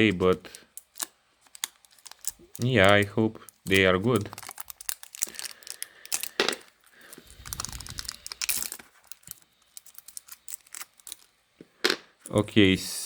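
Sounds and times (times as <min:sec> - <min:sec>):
packaging rustling: 0:00.0 - 0:11.4
small hard parts clicking: 0:00.0 - 0:12.4.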